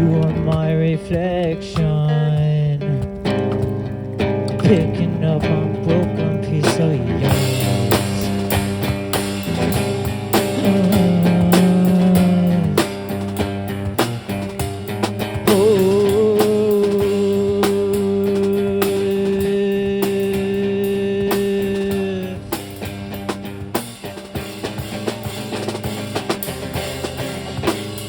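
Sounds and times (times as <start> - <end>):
drum kit playing: 0.0 - 28.0
guitar playing: 0.0 - 28.0.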